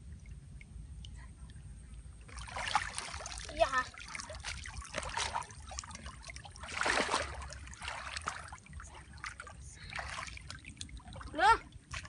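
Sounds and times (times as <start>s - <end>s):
water trickling off a net: 2.2s - 12.0s
water splash: 2.3s - 12.0s.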